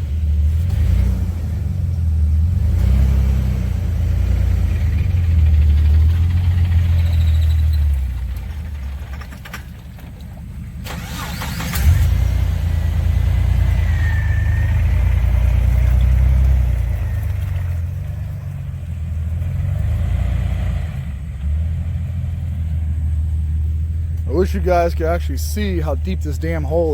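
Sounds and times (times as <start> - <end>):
off-road vehicle engine revving: 0.0 - 26.9.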